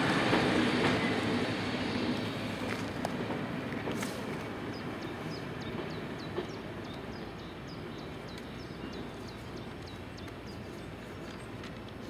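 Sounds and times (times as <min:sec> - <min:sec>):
diesel railcar rumble: 0:00.0 - 0:12.0.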